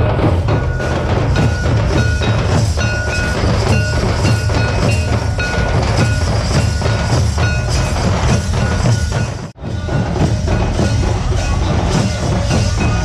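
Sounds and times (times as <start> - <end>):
kettle drums and barrel drum beating: 0.0 - 13.0.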